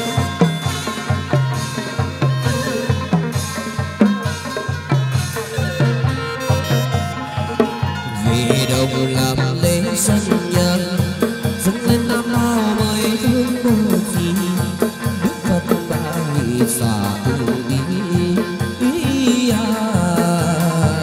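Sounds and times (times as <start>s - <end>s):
quick steady drum beat: 0.0s - 21.0s
ritual music melody: 0.0s - 21.0s.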